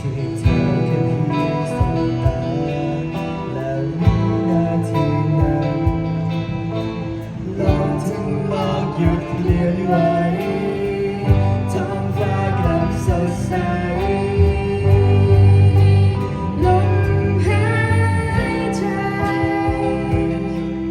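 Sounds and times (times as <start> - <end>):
live band playing: 0.0 - 20.9
person singing: 0.0 - 20.9.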